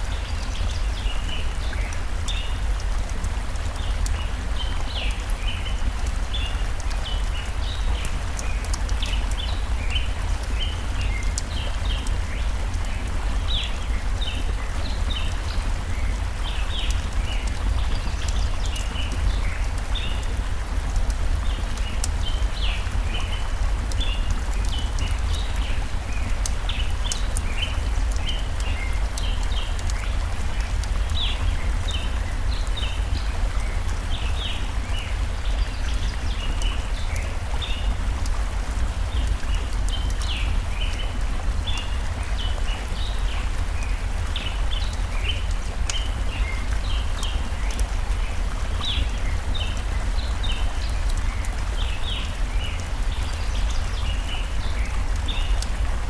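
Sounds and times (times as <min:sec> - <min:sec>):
small birds chirping: 0:00.0 - 0:55.9
stream running: 0:00.0 - 0:56.0.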